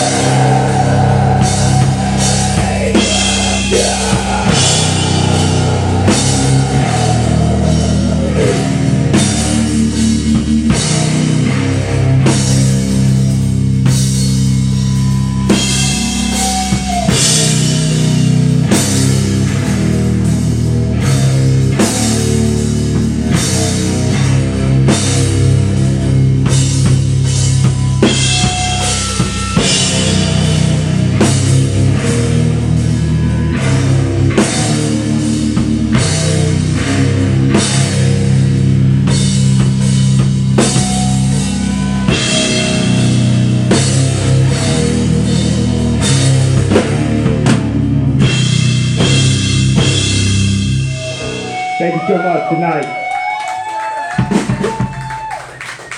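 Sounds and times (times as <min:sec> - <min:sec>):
drum kit beat: 0:00.0 - 0:51.7, 0:52.9 - 0:55.9
electric guitar chords: 0:00.0 - 0:55.0.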